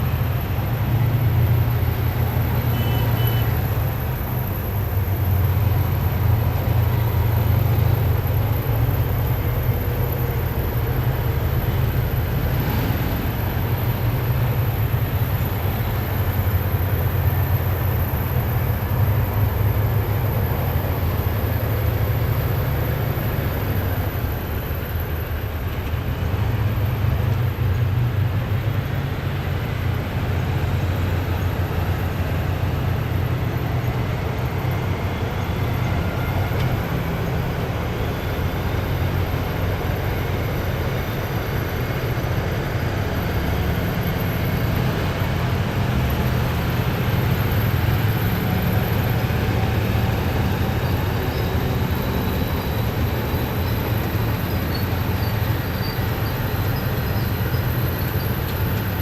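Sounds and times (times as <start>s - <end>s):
heavy vehicle engines rumbling: 0.0s - 59.0s.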